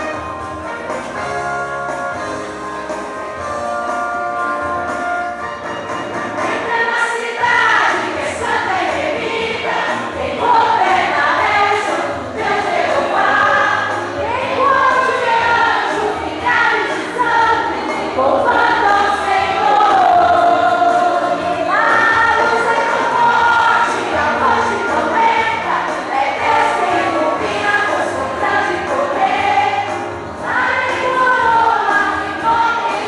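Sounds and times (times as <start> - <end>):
instrumental accompaniment: 0.0 - 33.0
gospel choir singing: 6.3 - 33.0.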